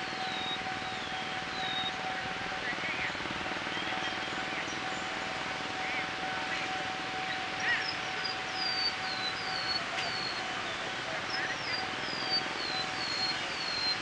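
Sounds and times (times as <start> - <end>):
birds chirping: 0.0 - 14.0
faint steady tone: 0.0 - 14.0.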